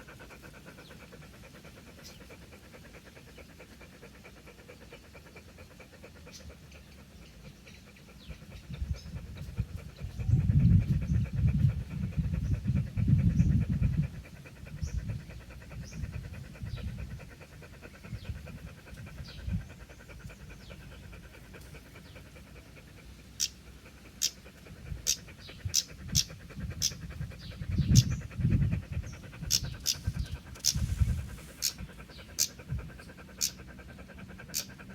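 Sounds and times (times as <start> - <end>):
dog panting: 0.0 - 34.9.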